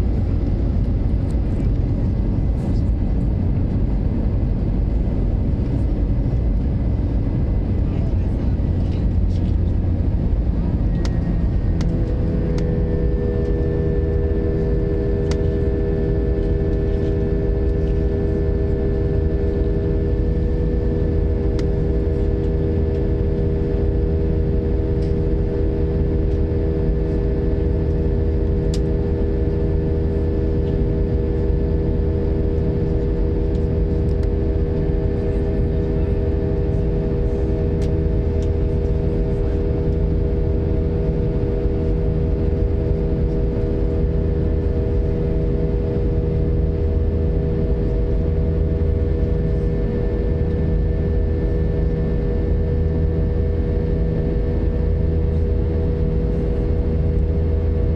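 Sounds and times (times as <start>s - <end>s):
constant engine whine: 0.0s - 57.9s
jet cabin rumble: 0.0s - 57.9s.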